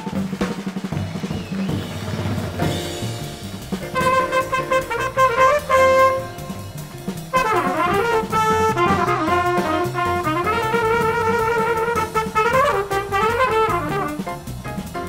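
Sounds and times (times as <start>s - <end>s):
drum kit: 0.0s - 15.0s
trumpet jazz solo: 2.4s - 15.0s.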